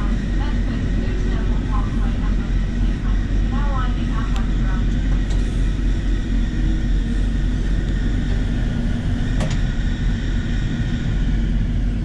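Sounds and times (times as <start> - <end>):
train rumbling from inside: 0.0 - 12.0.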